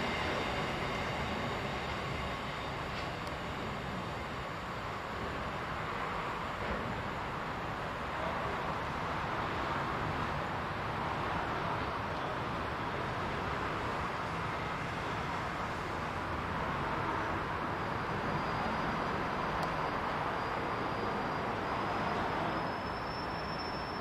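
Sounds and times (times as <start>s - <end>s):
faint high whine: 0.0s - 24.0s
train rushing past: 0.0s - 24.0s.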